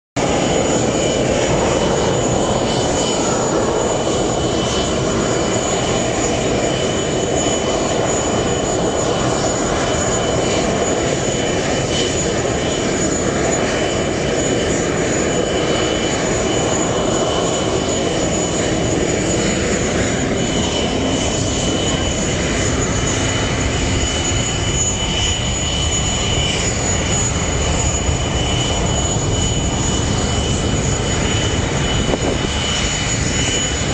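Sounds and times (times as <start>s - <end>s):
jet engines rumbling and whining: 0.2s - 33.9s.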